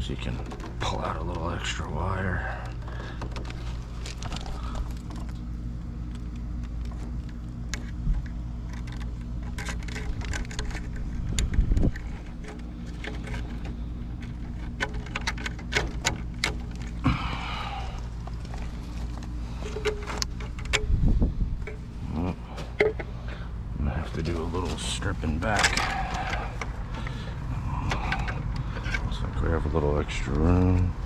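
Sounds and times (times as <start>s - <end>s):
steady low hum: 0.0s - 31.0s
wires and small parts rattling: 0.0s - 31.0s.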